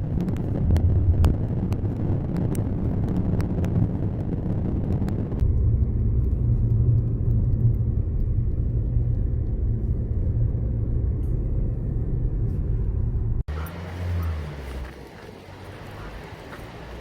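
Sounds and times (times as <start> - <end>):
car driving low rumble: 0.0 - 17.0.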